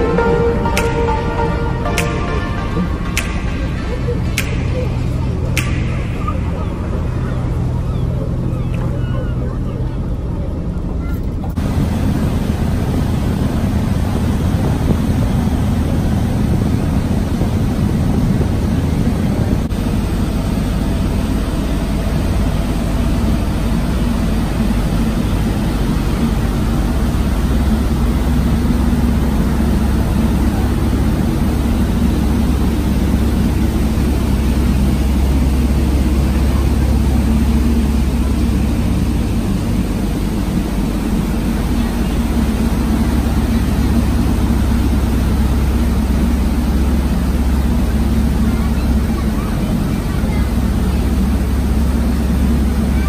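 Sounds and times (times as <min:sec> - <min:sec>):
ferry engines droning: 0:00.0 - 0:53.0
wind: 0:01.8 - 0:53.0
rushing wake water: 0:05.5 - 0:53.0.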